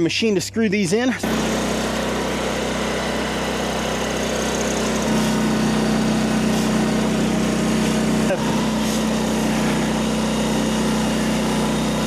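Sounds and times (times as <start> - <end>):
engine running steadily: 1.1 - 12.0.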